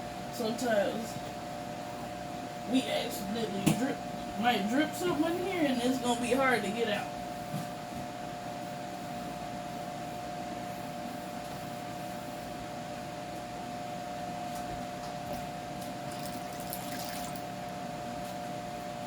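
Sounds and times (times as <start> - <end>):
machine hum with whining tone: 0.0 - 19.0.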